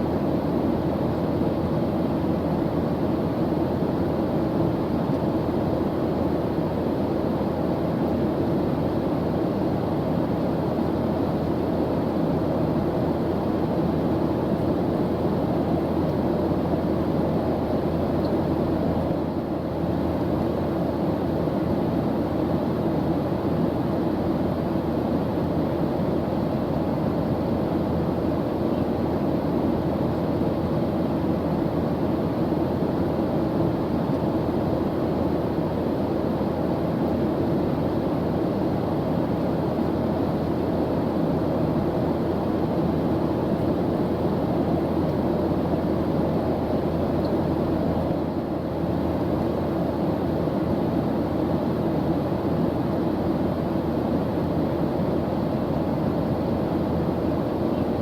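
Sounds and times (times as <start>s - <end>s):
airplane engine rush: 0.0s - 58.0s.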